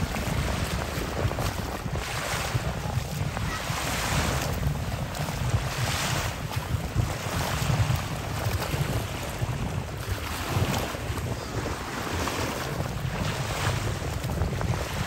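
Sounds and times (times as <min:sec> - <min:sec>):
shallow sea water washing: 0:00.0 - 0:15.0
wind buffeting microphone: 0:00.0 - 0:15.0.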